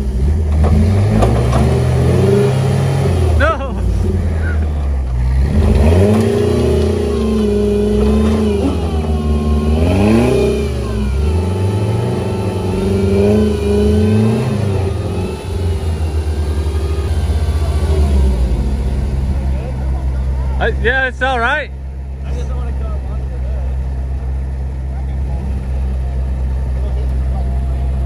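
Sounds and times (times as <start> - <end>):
pickup truck engine revving: 0.0 - 28.0.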